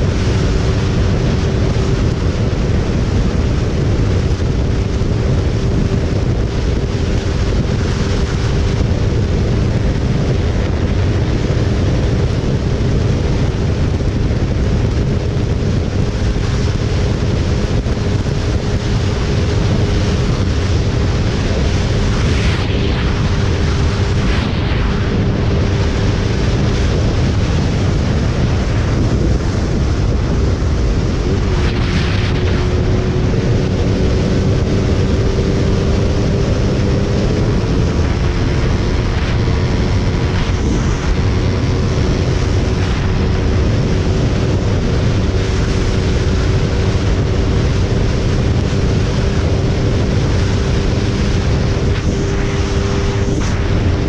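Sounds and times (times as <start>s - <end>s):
motorcycle engine drone: 0.0s - 54.0s
wind buffeting microphone: 0.0s - 54.0s.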